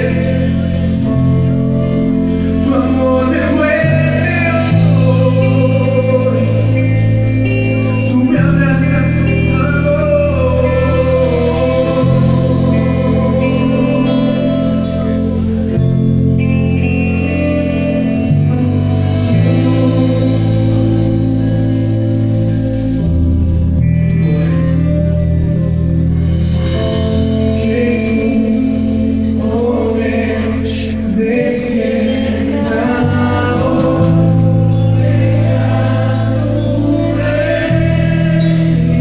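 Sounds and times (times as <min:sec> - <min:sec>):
drums: 0:00.0 - 0:39.0
low held chords: 0:00.0 - 0:39.0
vocalists singing: 0:00.0 - 0:39.0.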